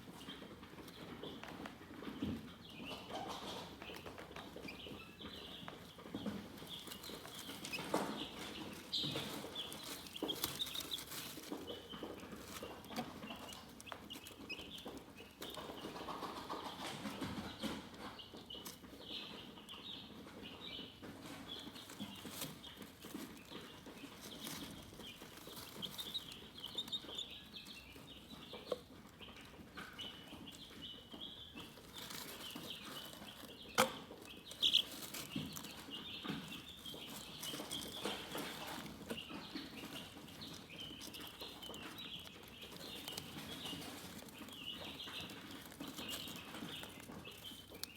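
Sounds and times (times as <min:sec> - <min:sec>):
chickens chirping: 0:00.0 - 0:47.9
chickens clucking: 0:00.0 - 0:47.9.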